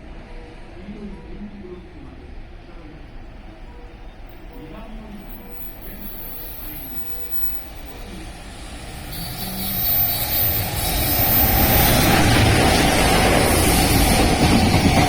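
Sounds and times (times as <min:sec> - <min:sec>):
train rumble and rail noise: 0:00.0 - 0:15.0.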